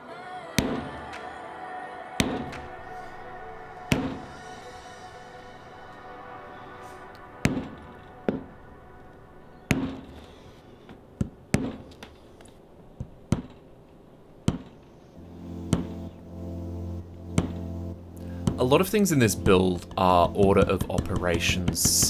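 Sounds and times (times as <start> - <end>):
background music: 0.0 - 11.7, 15.2 - 22.0.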